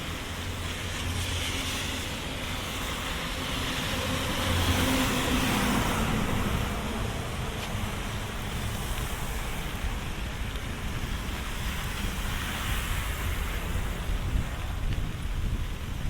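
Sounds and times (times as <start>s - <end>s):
rain hiss: 0.0s - 16.0s
wet road traffic: 0.0s - 16.0s.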